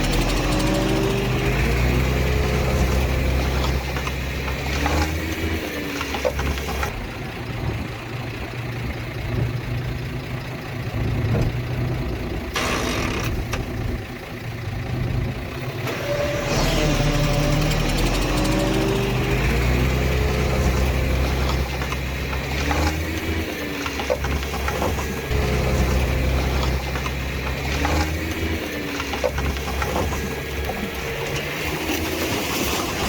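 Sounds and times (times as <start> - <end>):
heavy machinery diesel engines revving: 0.0 - 33.0.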